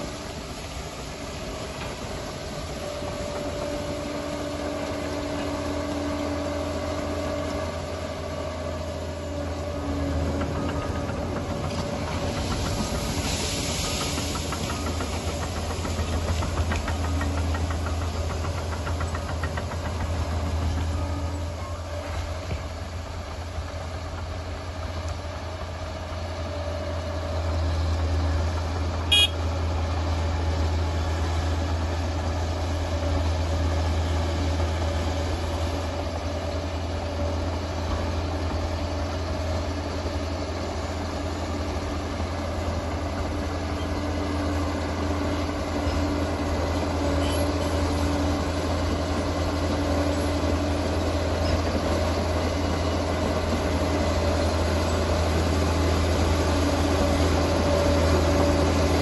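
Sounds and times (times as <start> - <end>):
dozer diesel engine running: 0.0 - 59.0.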